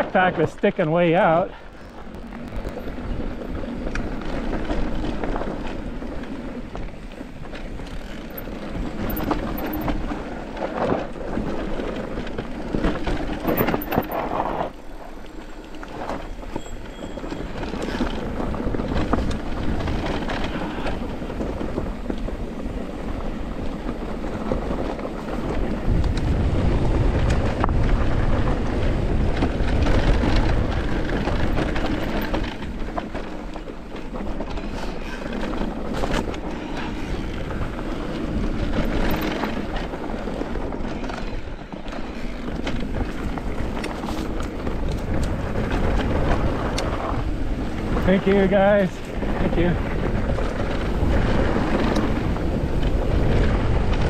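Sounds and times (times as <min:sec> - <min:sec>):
bike clattering over bumps: 0:00.0 - 0:54.0
bike tyres rolling over dirt: 0:00.0 - 0:54.0
wind buffeting microphone: 0:00.0 - 0:54.0.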